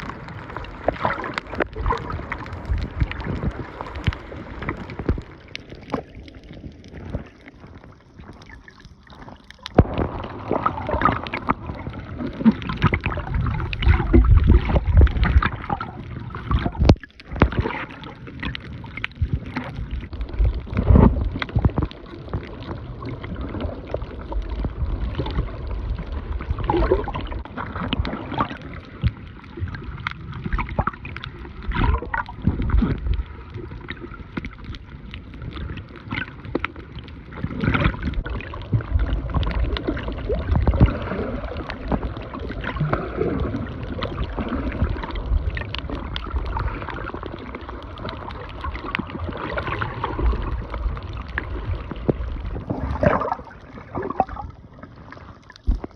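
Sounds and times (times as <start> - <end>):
seawater sloshing and gurgling: 0.0 - 55.9.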